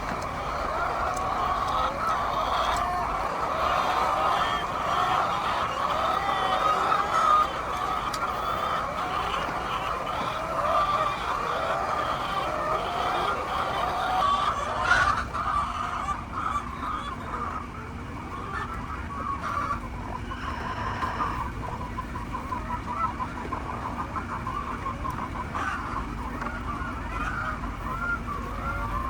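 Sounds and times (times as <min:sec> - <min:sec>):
hens clucking: 0:00.0 - 0:29.0.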